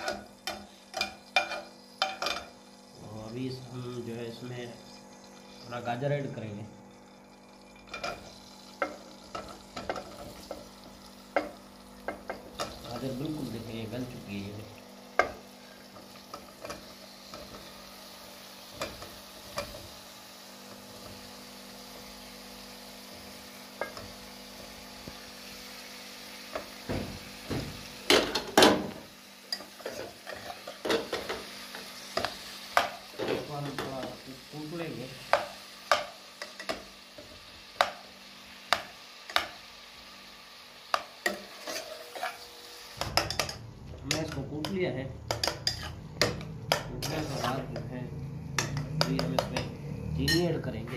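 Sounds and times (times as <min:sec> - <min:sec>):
carrots sizzling in butter: 0:00.0 - 0:50.9.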